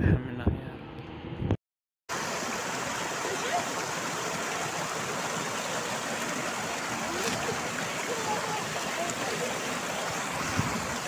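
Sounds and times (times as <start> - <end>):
water rushing over rocks: 2.1 - 11.0.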